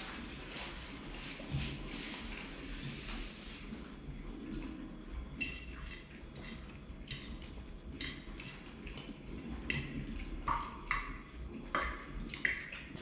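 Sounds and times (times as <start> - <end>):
soft chewing: 2.1 - 13.0.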